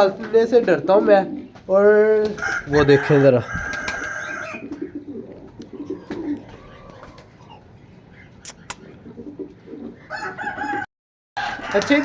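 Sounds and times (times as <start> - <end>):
pigeons cooing: 0.0 - 11.9.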